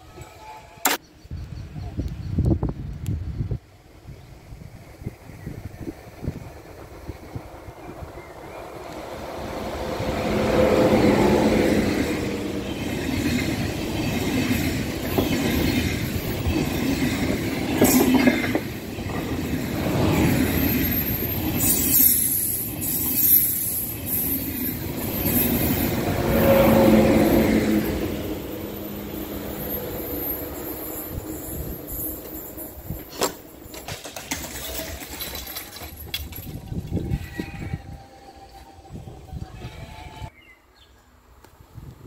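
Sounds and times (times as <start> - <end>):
train passing with rumble: 1.6 - 40.3.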